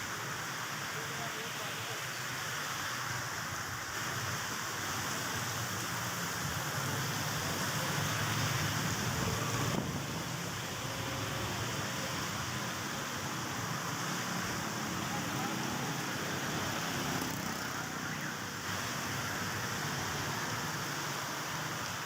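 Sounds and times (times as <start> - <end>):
heavy rain hissing: 0.0 - 22.0.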